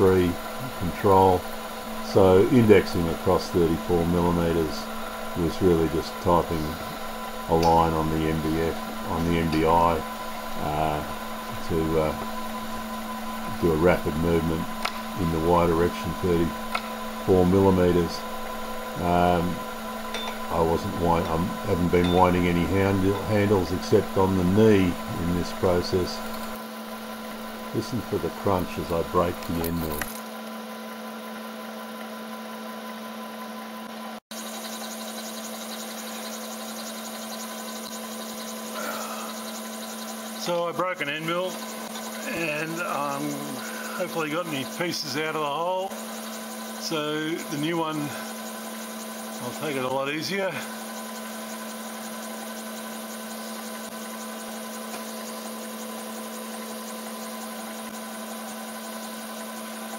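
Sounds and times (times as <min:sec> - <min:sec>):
milling machine motor hum: 0:00.0 - 0:59.9.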